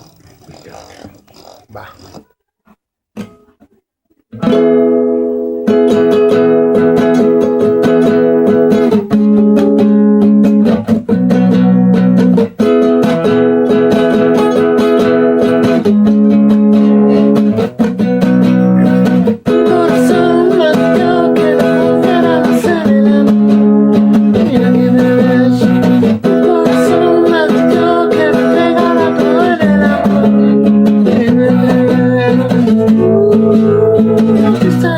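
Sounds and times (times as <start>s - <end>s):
acoustic guitar strumming chords: 2.0s - 34.9s.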